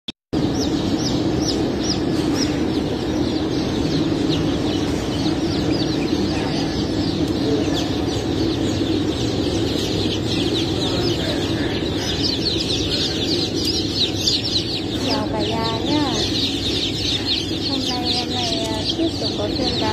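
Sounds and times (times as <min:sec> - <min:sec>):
chicks peeping: 0:00.4 - 0:19.9
low steady hum: 0:00.4 - 0:19.9.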